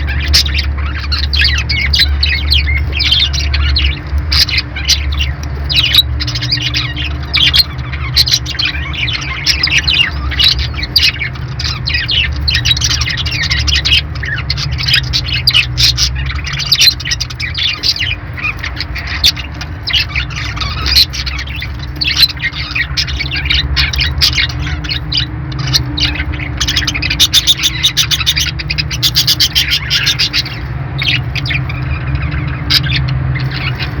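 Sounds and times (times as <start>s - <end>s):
parakeets chirping and squawking: 0.0s - 34.0s.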